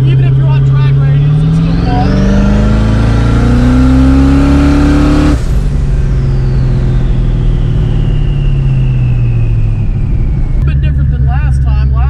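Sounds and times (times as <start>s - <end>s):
car engine accelerating: 0.0s - 12.0s
high whine: 0.0s - 12.0s.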